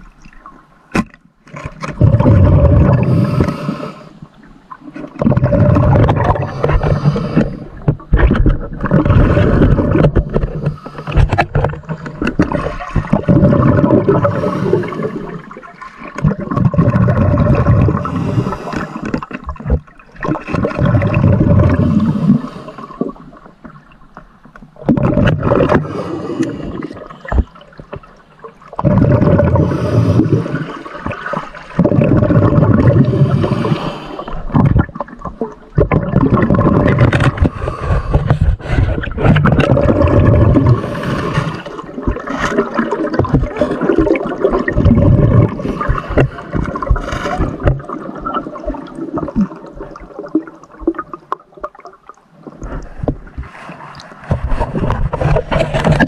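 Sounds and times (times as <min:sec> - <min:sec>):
water churning and gurgling: 0:00.0 - 0:56.0.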